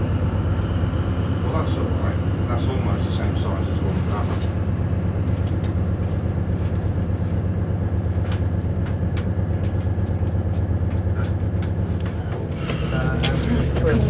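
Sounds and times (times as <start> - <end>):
diesel engine hum: 0.0 - 14.0.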